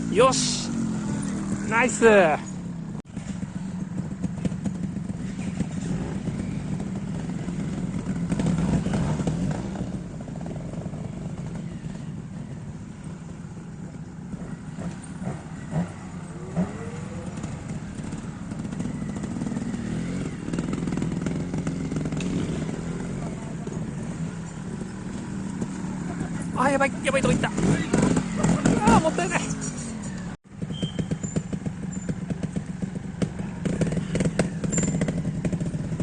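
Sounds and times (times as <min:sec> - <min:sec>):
motorcycle engine running: 0:00.0 - 0:36.0
motorcycle throttle blips: 0:00.0 - 0:36.0.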